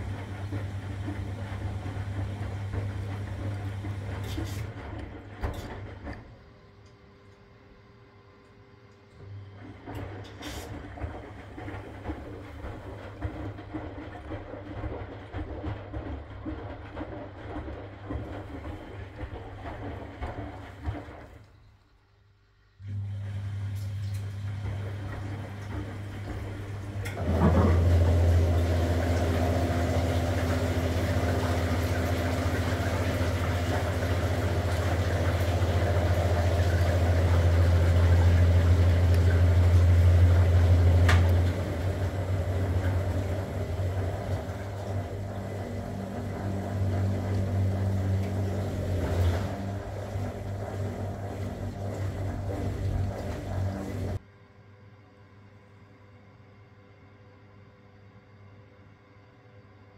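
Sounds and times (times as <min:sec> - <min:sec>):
laundry and water churning: 0:00.0 - 0:06.4, 0:09.2 - 0:22.0, 0:22.8 - 0:54.2
washing machine motor humming: 0:00.0 - 0:54.2.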